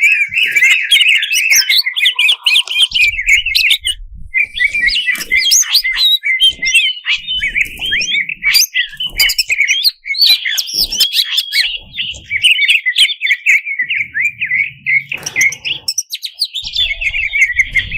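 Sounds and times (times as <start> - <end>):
bird singing chirps and whistles: 0.0 - 17.9.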